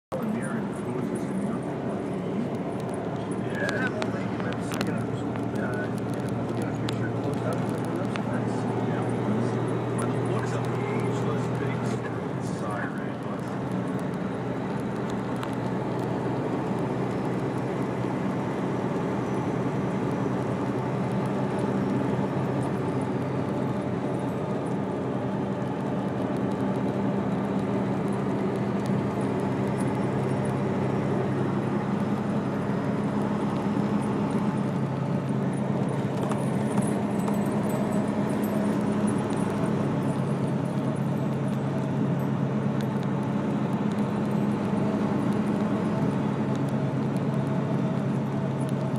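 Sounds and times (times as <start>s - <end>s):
motor engine droning: 0.1s - 48.9s.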